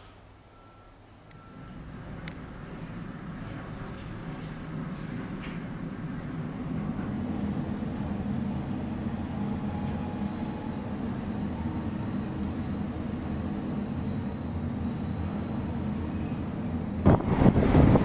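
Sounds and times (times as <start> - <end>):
city traffic hum: 0.0 - 18.0
train rumbling over bridge: 1.1 - 18.0.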